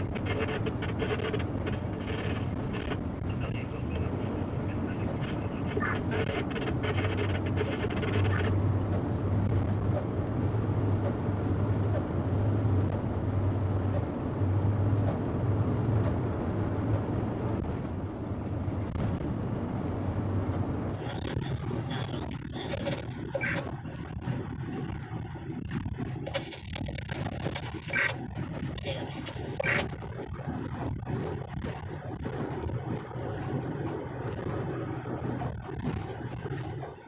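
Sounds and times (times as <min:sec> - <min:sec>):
truck diesel engine drone: 0:00.0 - 0:37.0.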